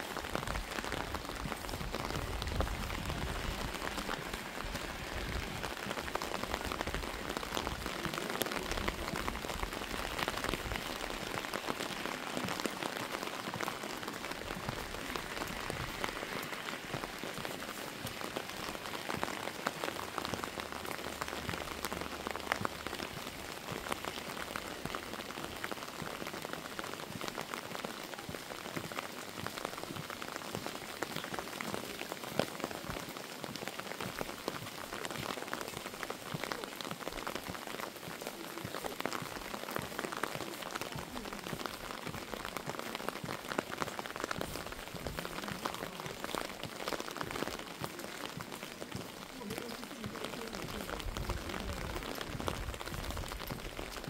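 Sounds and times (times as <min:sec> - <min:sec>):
single raindrops: 0:00.0 - 0:54.0
steady rain hiss: 0:00.0 - 0:54.0.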